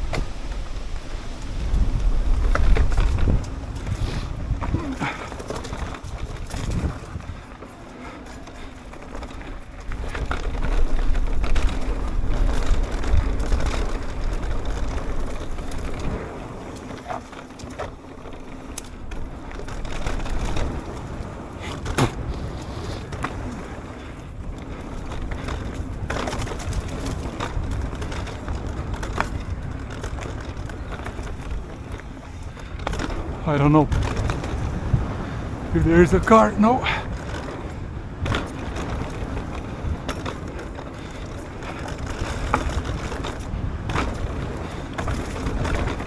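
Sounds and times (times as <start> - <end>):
wind on microphone: 0.0 - 17.4, 18.2 - 46.0
bike knocks and rattles: 0.0 - 46.0
bike tyres rolling over stones: 0.0 - 46.0.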